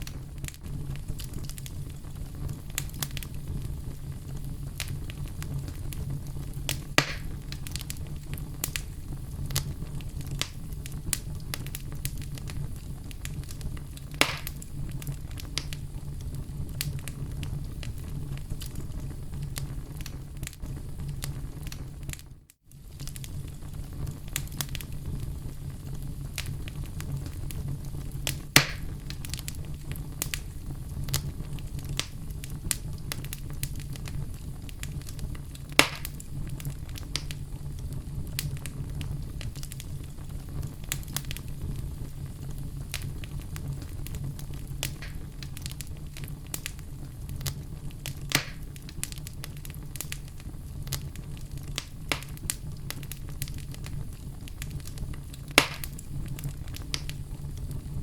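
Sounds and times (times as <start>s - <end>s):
fire crackles and pops: 0.0s - 58.0s
low rumble of flames: 0.0s - 58.0s.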